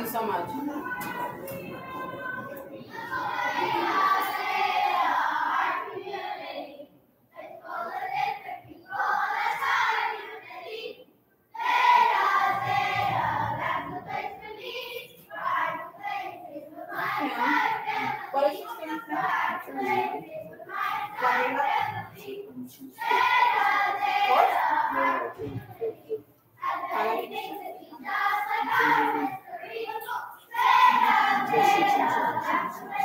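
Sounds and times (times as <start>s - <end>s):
children singing together: 0.8s - 33.0s.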